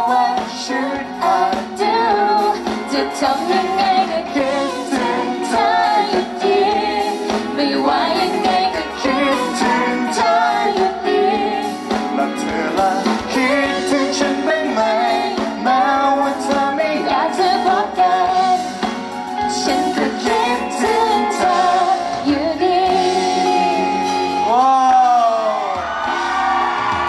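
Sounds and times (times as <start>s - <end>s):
man and woman singing: 0.0s - 24.6s
band with electric guitar: 0.0s - 27.0s.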